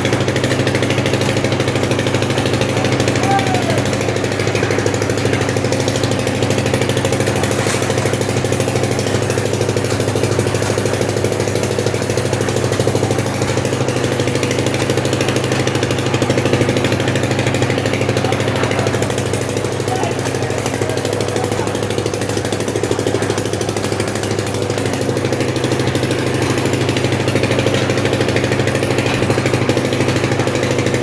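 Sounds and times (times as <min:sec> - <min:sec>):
concrete mixer engine chugging: 0:00.0 - 0:31.0.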